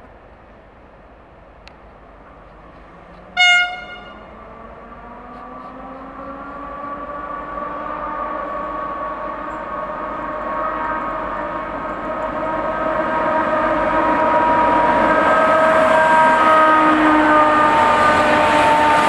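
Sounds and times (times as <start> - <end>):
diesel locomotive engine droning: 0.0 - 19.0.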